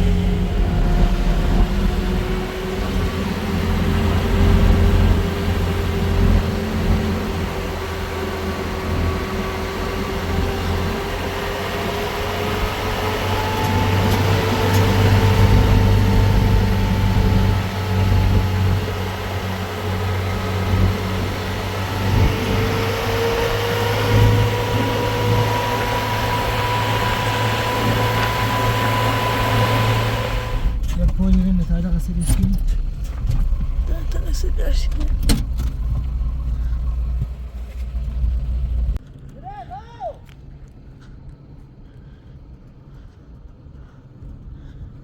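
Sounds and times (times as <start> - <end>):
vehicle engine running: 0.0 - 39.4.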